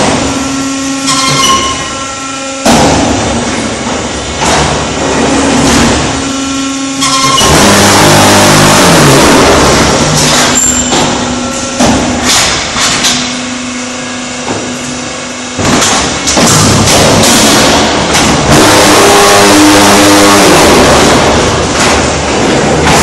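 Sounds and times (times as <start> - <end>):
loud machine noise: 0.0 - 23.0.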